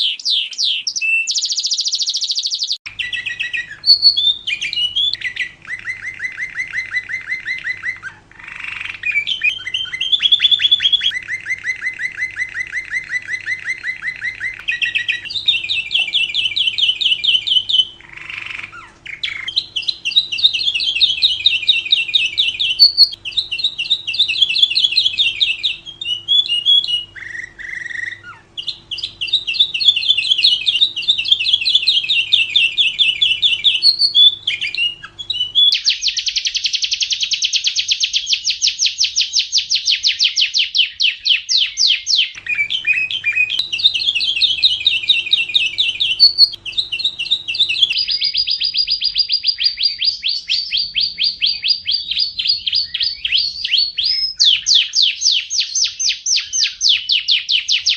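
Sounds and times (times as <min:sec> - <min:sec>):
lovebird chattering trills: 0:00.0 - 0:57.9.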